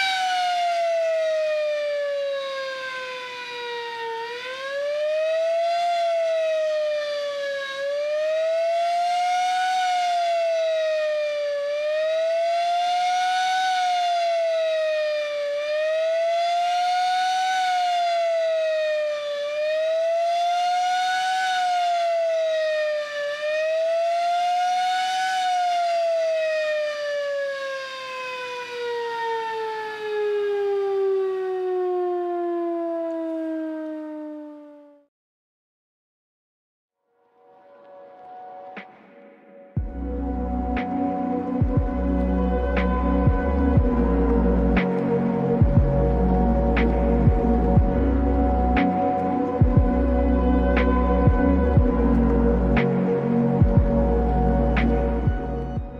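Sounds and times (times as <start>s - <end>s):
siren wailing: 0.0s - 35.1s, 37.4s - 55.9s.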